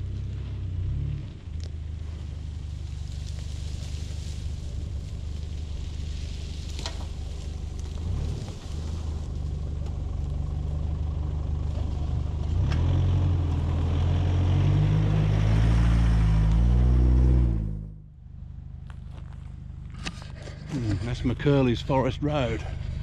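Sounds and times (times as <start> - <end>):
vehicle engine driving: 0.0 - 23.0.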